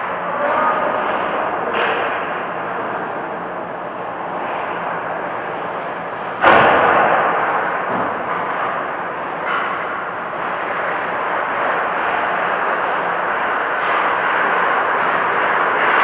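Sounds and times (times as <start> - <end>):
rushing vehicle noise: 0.0 - 16.0.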